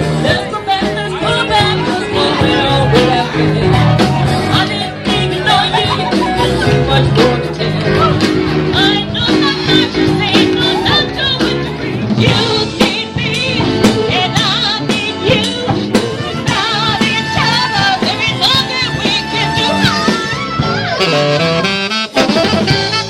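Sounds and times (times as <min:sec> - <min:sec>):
person singing: 0:00.0 - 0:21.8
live band music: 0:00.0 - 0:23.0.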